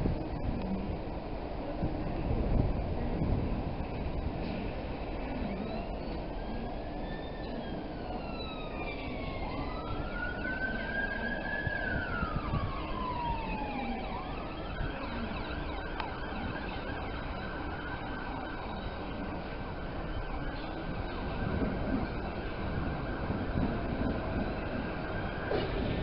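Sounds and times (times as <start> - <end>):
city background noise: 0.0 - 26.0
rail rumble: 0.0 - 26.0
emergency vehicle siren wailing: 3.6 - 26.0.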